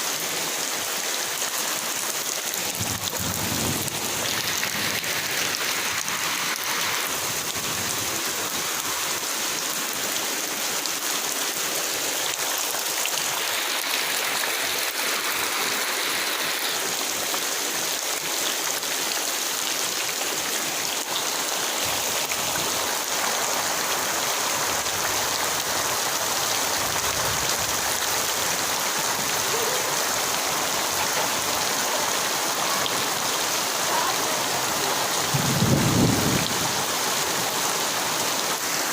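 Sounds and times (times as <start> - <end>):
heavy rain hissing on surfaces: 0.0 - 38.9
running water: 0.0 - 38.9.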